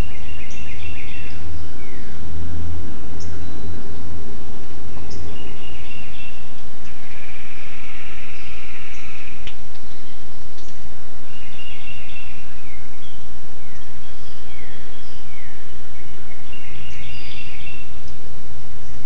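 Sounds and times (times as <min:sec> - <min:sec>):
low steady hum: 0:00.0 - 0:19.0
songbirds buzzy trills: 0:00.0 - 0:19.0
steady background noise: 0:00.0 - 0:19.0.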